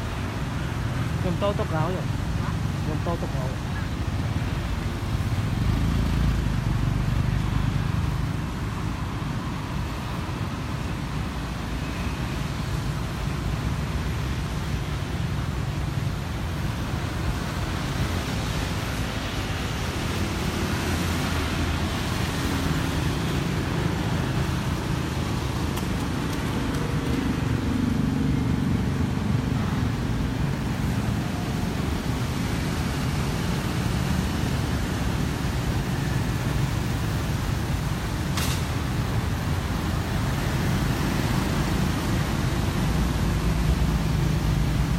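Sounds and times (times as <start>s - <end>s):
street traffic engine rumble: 0.0s - 44.9s.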